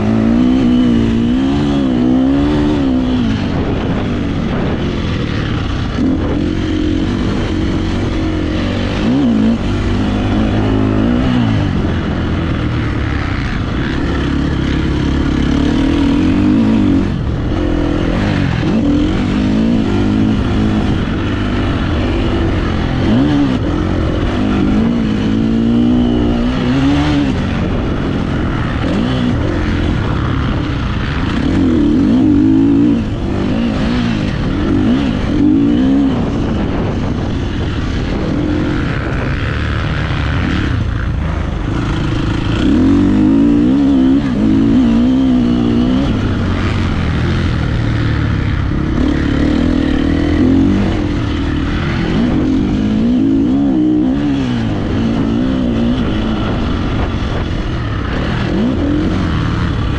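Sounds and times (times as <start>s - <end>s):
motocross bike engine revving: 0.0s - 59.9s
wind rushing over microphone: 0.0s - 59.9s.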